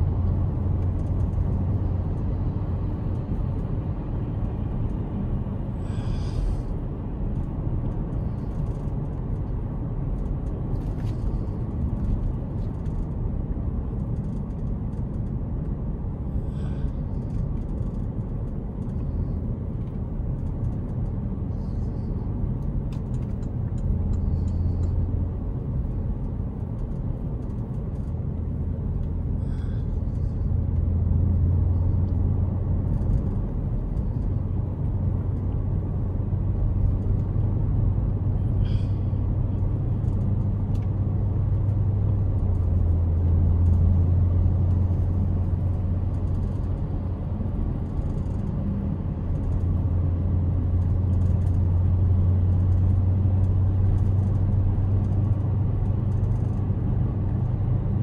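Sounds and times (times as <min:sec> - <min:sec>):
car engine droning: 0:00.0 - 0:58.0
road and tyre noise: 0:00.0 - 0:58.0.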